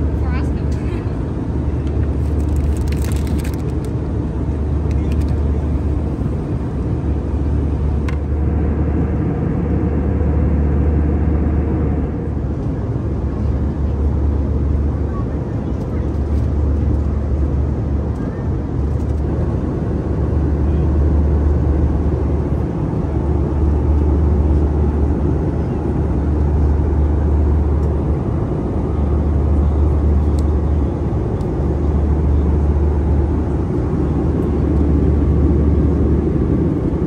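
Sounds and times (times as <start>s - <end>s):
airflow rush in aircraft cabin: 0.0s - 37.0s
deep rumble: 0.0s - 37.0s
jet engine drone: 0.0s - 37.0s.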